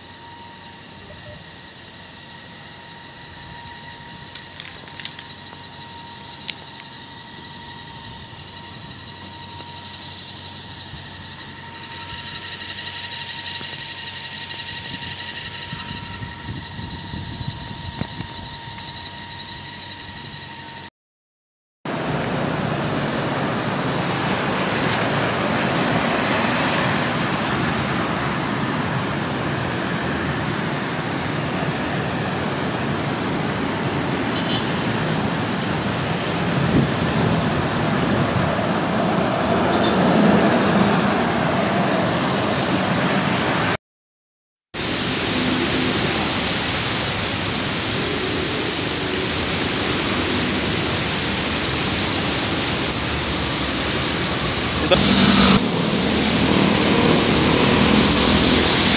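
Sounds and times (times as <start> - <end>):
traffic on wet streets: 0.0 - 20.3, 21.9 - 43.8, 44.8 - 58.9
rain hiss: 0.0 - 20.8, 21.9 - 43.8, 44.8 - 58.9.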